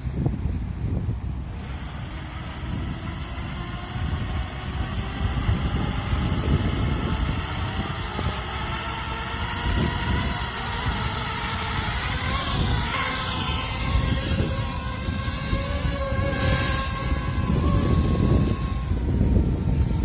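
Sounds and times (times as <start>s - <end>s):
quadcopter motors whining: 0.0s - 20.0s
wind rumbling on microphone: 0.0s - 20.0s.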